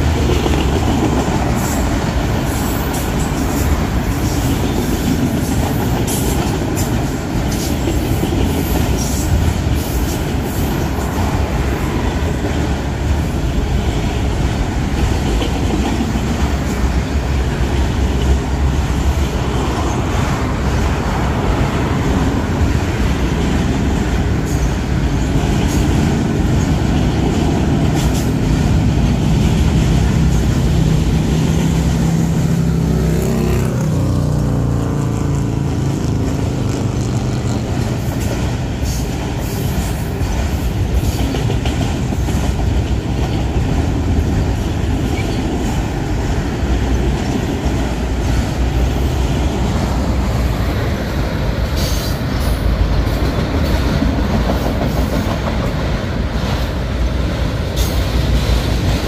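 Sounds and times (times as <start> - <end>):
train cars clicking and knocking: 0.0 - 59.0
train wheels rumbling on rail: 0.0 - 59.0.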